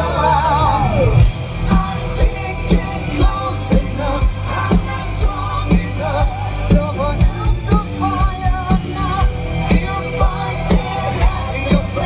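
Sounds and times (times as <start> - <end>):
live hard rock band: 0.0 - 12.0
man singing: 0.0 - 12.0.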